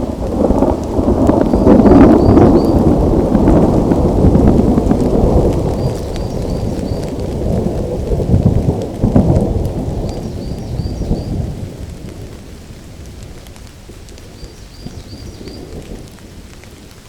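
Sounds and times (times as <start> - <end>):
steady rain: 0.0 - 17.0
thunder rolling: 0.0 - 17.0.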